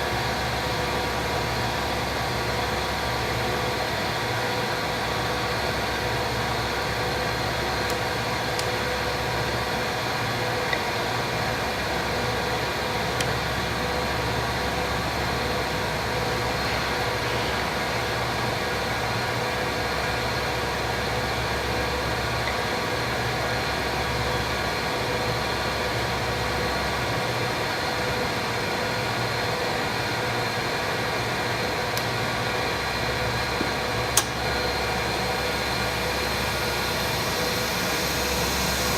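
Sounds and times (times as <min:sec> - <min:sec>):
lathe running: 0:00.0 - 0:38.9.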